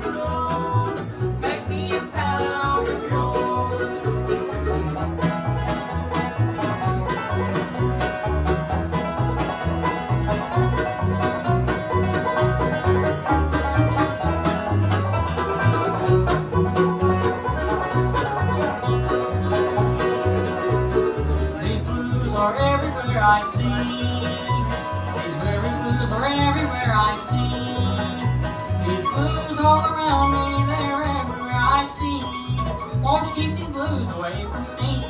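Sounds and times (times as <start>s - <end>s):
banjo picking: 0.0s - 35.0s
guitar picking: 0.0s - 35.0s
low bass notes: 0.0s - 35.0s.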